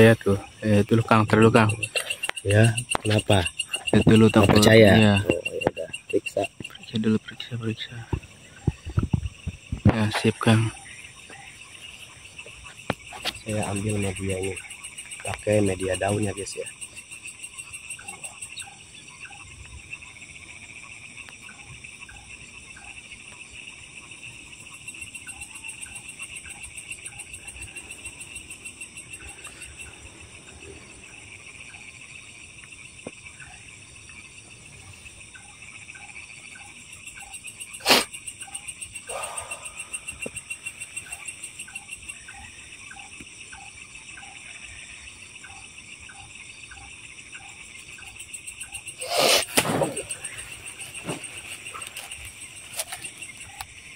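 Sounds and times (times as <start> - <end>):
frogs calling: 0.0 - 53.9
insects trilling: 0.0 - 53.9.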